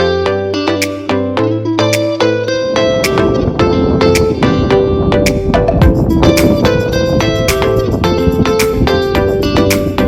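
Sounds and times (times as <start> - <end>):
guitar-led music over a beat: 0.0 - 10.0.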